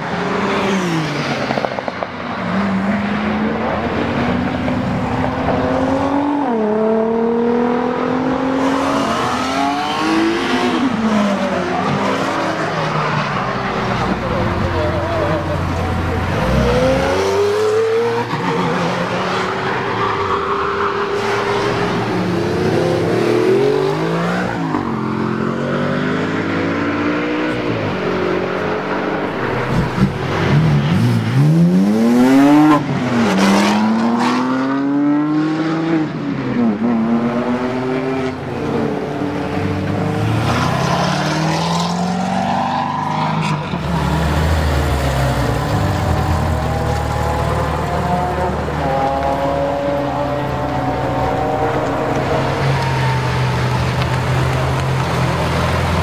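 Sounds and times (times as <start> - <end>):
sports car engines revving: 0.0 - 56.0.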